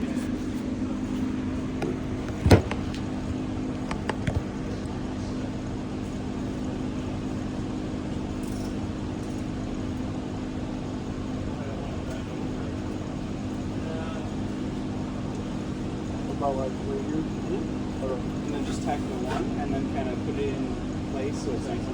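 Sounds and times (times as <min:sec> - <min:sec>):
low machine hum: 0:00.0 - 0:21.9.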